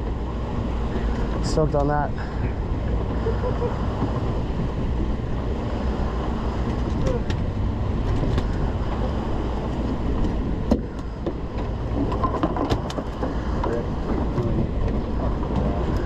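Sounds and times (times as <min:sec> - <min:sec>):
boat engine running: 0:00.0 - 0:16.0
wind and water rumble: 0:00.0 - 0:16.0.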